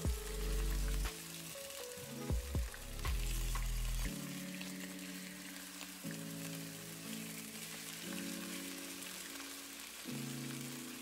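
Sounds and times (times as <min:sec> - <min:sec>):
background music with held notes: 0:00.0 - 0:11.0
chicken sizzling in frying pan: 0:00.0 - 0:11.0.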